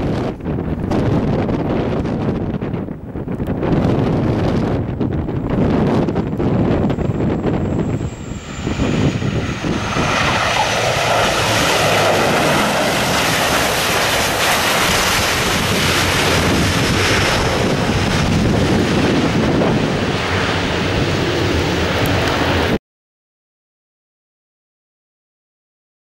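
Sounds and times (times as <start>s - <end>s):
turboprop engines rushing: 0.0s - 22.8s
wind buffeting microphone: 0.0s - 22.8s.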